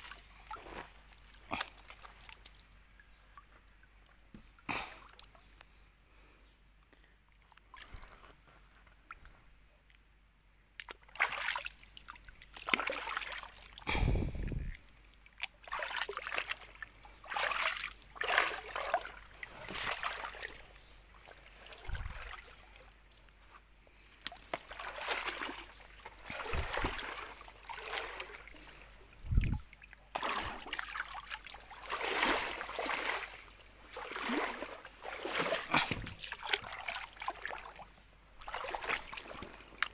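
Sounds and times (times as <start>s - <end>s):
water splashing and sloshing: 0.0s - 5.6s, 7.3s - 10.0s, 10.7s - 39.9s.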